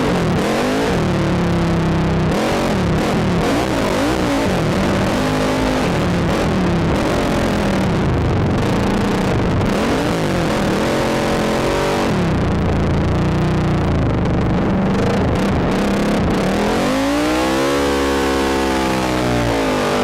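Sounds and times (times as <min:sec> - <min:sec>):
atv engine revving: 0:00.0 - 0:20.0
steady rushing noise: 0:00.0 - 0:20.0.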